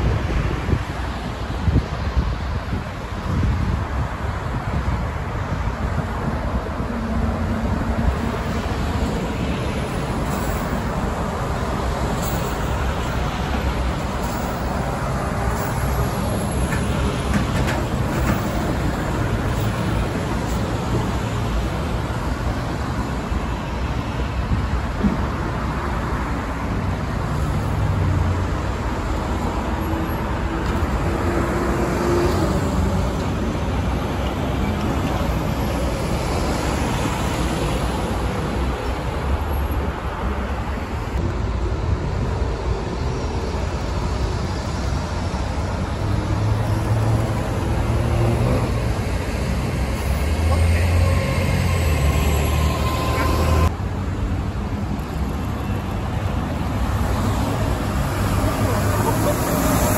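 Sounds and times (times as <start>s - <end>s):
road traffic rumble: 0.0s - 59.9s
vehicles passing by: 0.0s - 59.9s.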